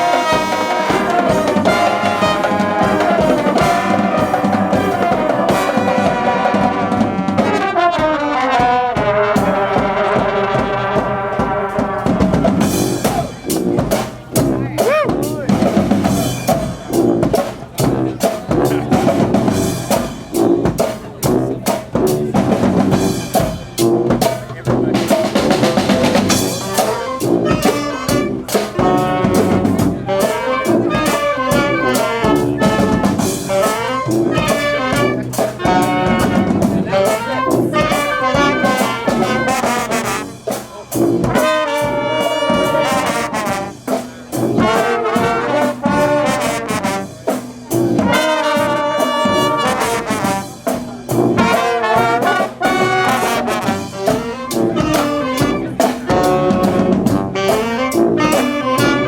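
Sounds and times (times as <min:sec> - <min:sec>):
brass marching band playing: 0:00.0 - 0:59.0
drums keeping a steady beat: 0:00.0 - 0:59.0
trumpets and trombones: 0:00.0 - 0:59.0.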